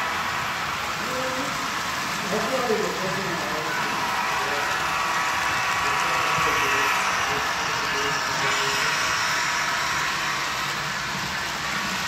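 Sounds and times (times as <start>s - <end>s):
model train running: 0.0s - 12.0s.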